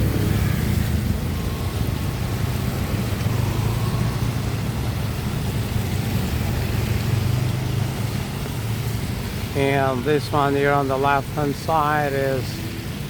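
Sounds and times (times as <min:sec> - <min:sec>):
constant hiss: 0:00.0 - 0:13.0
vehicle engine running: 0:00.0 - 0:13.0.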